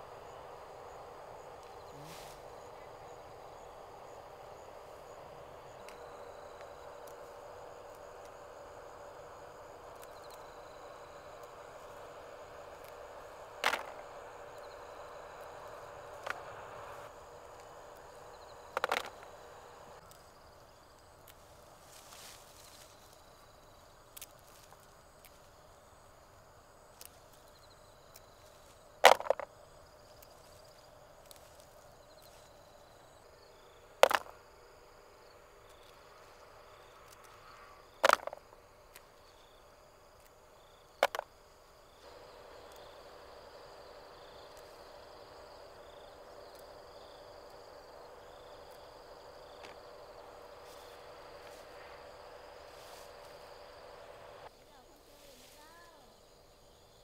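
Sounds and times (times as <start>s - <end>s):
faint steady background noise: 0.0s - 57.0s.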